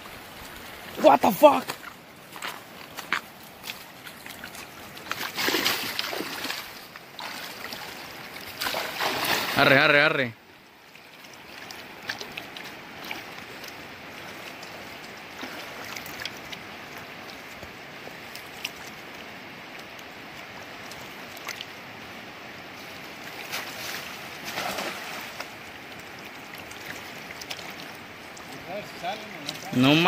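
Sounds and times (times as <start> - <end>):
river rushing: 0.0 - 30.0
water splashing from wading: 0.0 - 30.0.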